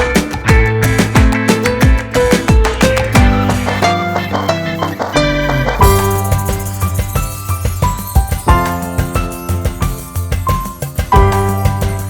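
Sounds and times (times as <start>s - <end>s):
latin rhythm plucked music: 0.0s - 12.0s.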